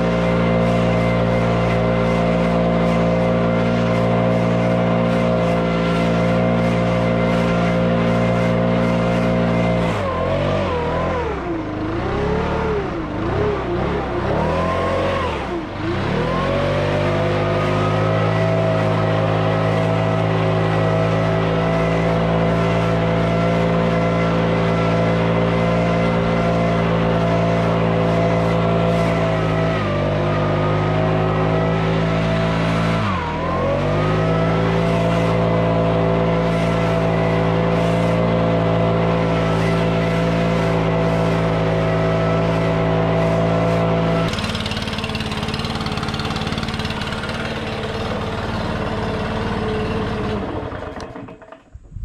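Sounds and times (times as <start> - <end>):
leaf blower engine revving: 0.0 - 52.0.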